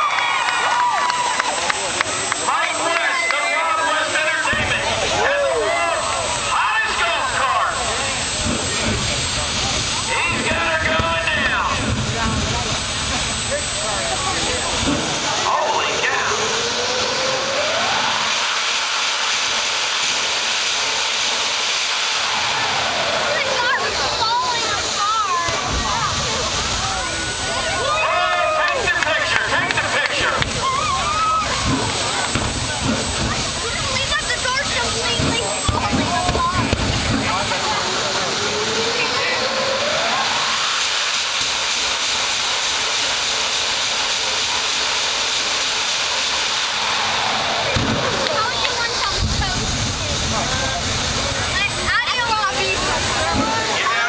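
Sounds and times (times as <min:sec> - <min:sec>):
jet engine hiss and whine: 0:00.0 - 0:54.0.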